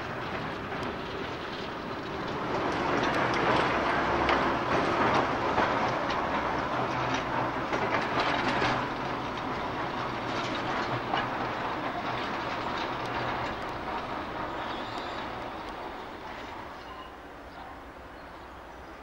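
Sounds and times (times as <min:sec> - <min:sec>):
train wheels clattering over rails: 0:00.0 - 0:19.0.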